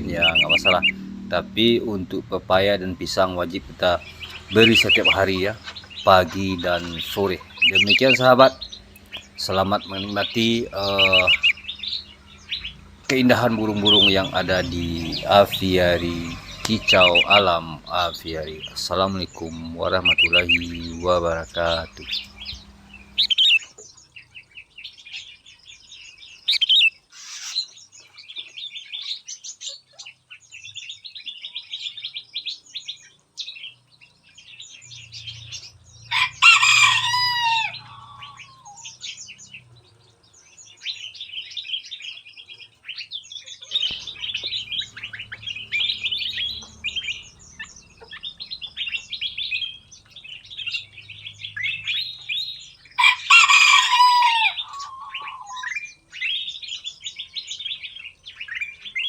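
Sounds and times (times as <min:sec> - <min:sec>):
loud long bird call: 0:00.0 - 0:59.0
small birds chirping and singing: 0:00.0 - 0:59.0.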